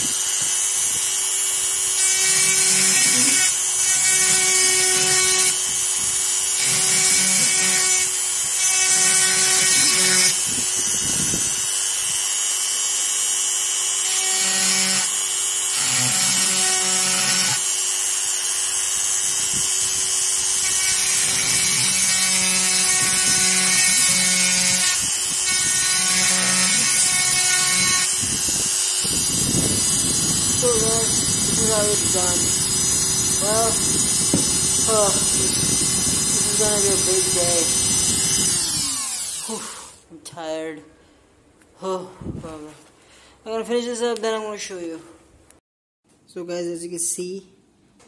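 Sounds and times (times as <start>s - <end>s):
bit grinding metal: 0.0s - 39.9s
engraver motor whine: 0.0s - 39.9s.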